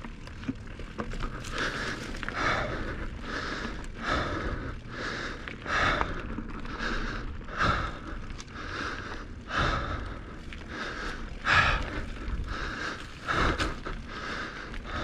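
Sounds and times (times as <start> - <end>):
heavy breathing: 1.2 - 15.0.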